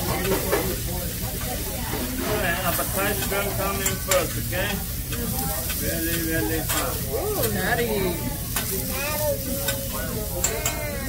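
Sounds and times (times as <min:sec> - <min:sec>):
diners talking: 0:00.0 - 0:11.0
food sizzling on griddle: 0:00.0 - 0:11.0.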